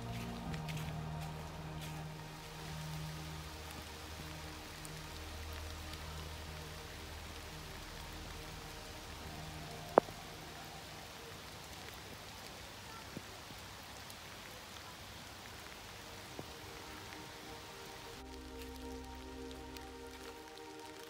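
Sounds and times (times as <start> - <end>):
light rain on river: 0.0 - 21.0.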